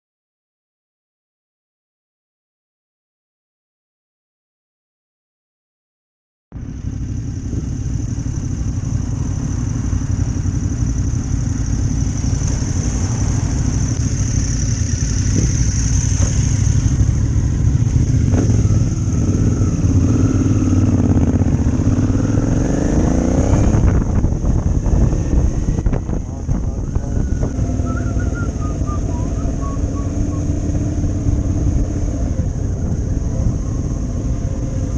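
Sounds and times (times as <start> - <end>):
motorcycle engine running: 6.6 - 34.9.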